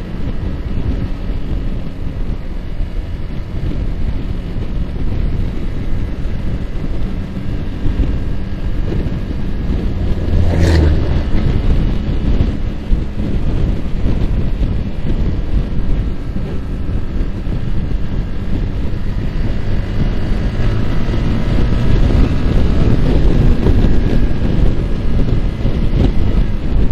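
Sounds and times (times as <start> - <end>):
motorcycle engine cruising: 0.0 - 26.9
wind rush on microphone: 0.0 - 26.9.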